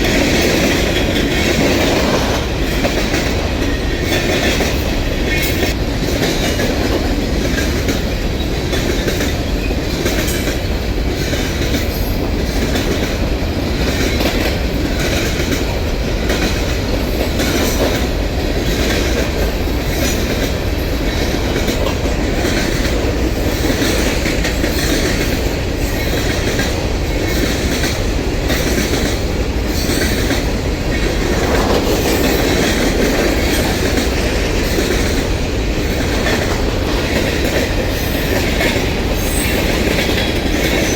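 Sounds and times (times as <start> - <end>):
train wheels on rails: 0.0 - 40.9
wheels clicking over rail joints: 0.0 - 40.9.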